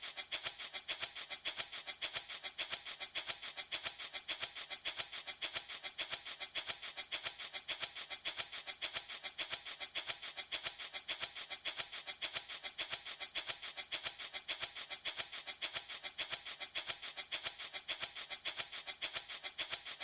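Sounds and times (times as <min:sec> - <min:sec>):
baby rattle shaking: 0:00.0 - 0:20.0.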